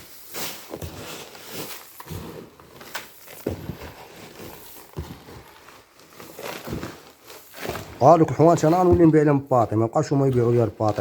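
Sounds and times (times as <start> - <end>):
rustling of handled things: 0.0 - 11.0.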